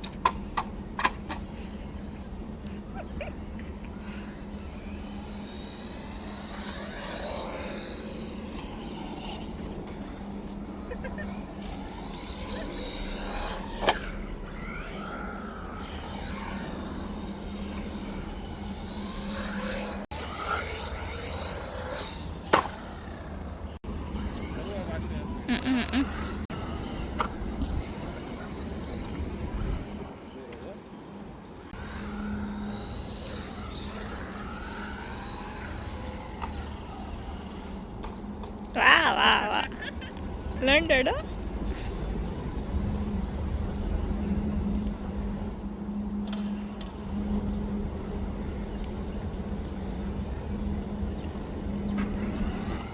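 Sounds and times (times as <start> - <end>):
rc truck electric motor whining: 0.0 - 30.5, 31.1 - 52.9.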